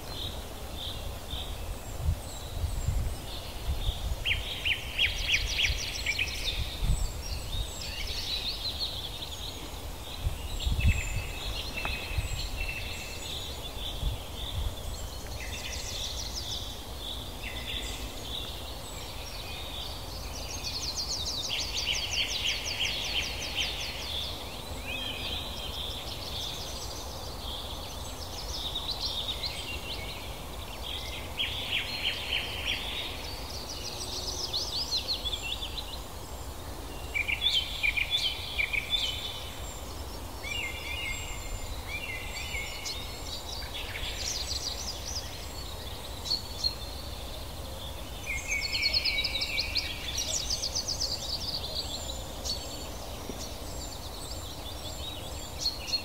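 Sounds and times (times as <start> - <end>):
birds singing trills: 0.0 - 56.0
steady background hiss: 0.0 - 56.0.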